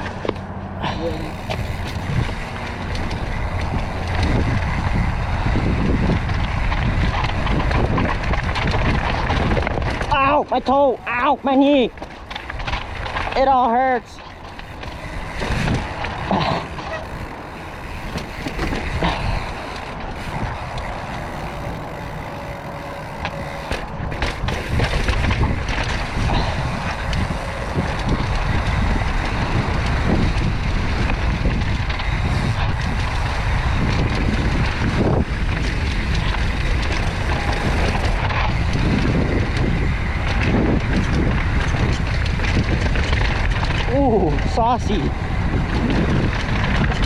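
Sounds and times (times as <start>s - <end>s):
bike tyres rolling on dirt trail: 0.0s - 47.0s
wind buffeting microphone: 0.0s - 47.0s.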